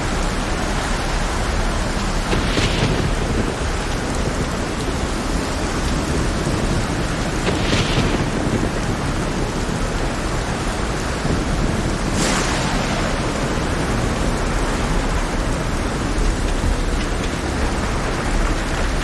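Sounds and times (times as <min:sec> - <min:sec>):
deep continuous rumble: 0:00.0 - 0:19.0
heavy rain hiss: 0:00.0 - 0:19.0.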